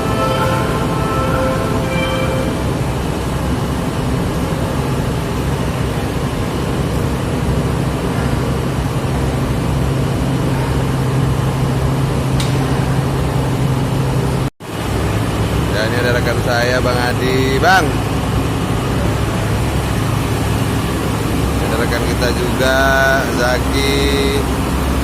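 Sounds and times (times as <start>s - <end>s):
large engine humming: 0.0s - 25.0s.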